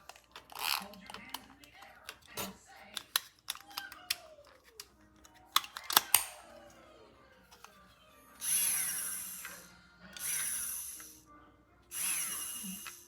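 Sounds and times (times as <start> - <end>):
milk frother whirring: 0.0 - 13.0.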